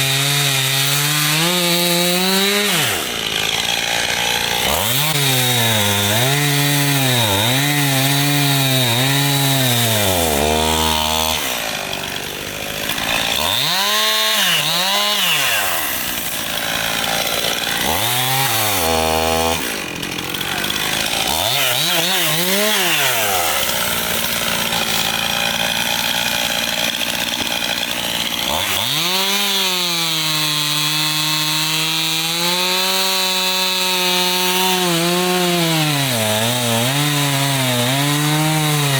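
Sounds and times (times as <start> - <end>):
chainsaw cutting firewood: 0.0 - 38.9.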